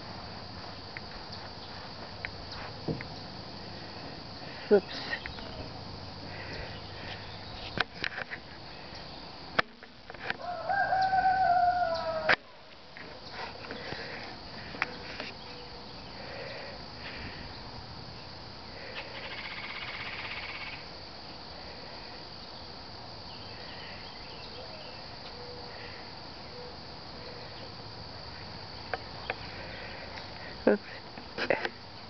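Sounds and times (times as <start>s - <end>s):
insects chorus: 0.0s - 32.0s
rasping insect buzz: 0.8s - 31.9s.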